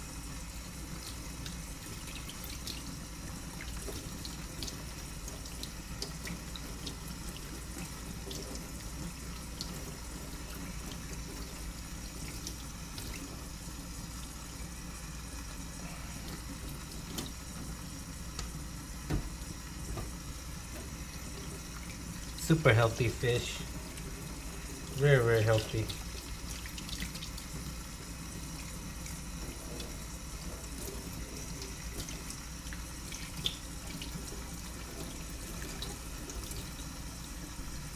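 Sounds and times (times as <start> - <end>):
tap water running into sink: 0.6 - 37.9.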